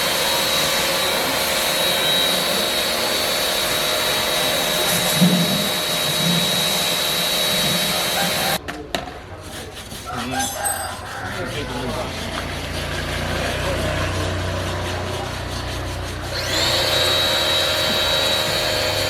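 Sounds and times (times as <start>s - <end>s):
electric power tool whining: 0.0s - 8.6s, 11.6s - 19.0s.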